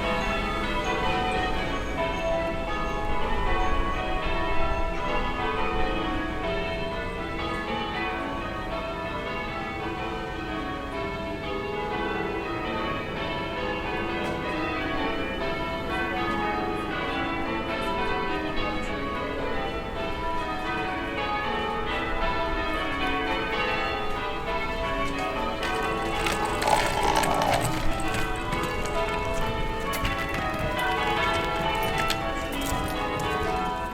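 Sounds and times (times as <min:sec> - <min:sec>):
distant church bells pealing: 0:00.0 - 0:33.9.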